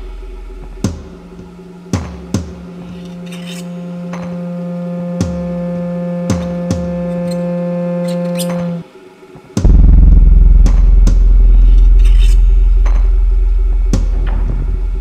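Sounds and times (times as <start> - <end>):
deep bass drone: 0.0 - 8.8, 9.6 - 15.0
droning electronic score: 0.0 - 15.0.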